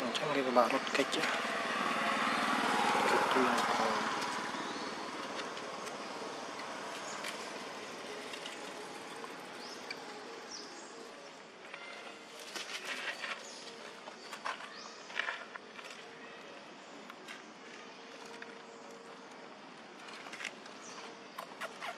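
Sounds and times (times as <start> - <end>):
outdoor background noise: 0.0 - 21.9.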